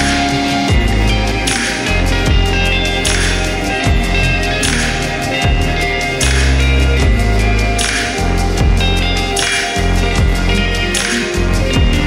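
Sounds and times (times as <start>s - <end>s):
music with sliding heavy bass: 0.0s - 12.0s.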